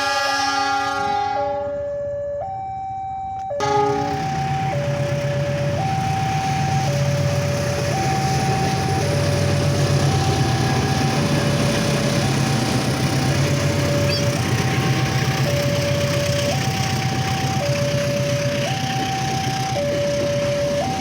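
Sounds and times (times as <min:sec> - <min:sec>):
two-tone electronic alarm: 0:00.0 - 0:21.0
diesel locomotive idling: 0:03.4 - 0:21.0.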